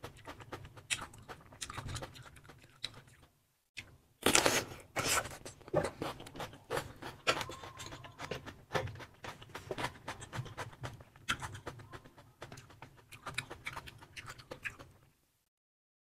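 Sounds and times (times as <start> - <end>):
mouth chewing wet clicks: 0.0 - 4.6, 5.5 - 15.1.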